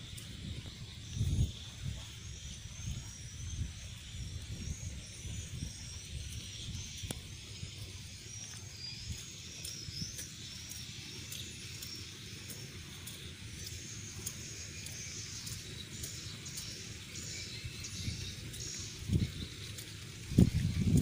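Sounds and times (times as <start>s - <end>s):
swiftlets twittering: 0.0s - 21.0s.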